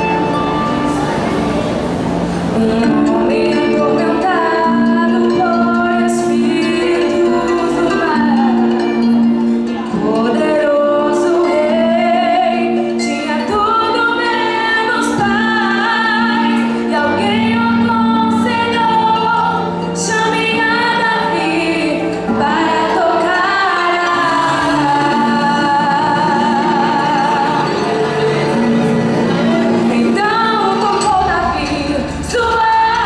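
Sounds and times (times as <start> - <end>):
instrumental accompaniment: 0.0 - 33.0
women singing gospel song: 2.6 - 8.8, 9.9 - 28.4, 29.9 - 33.0.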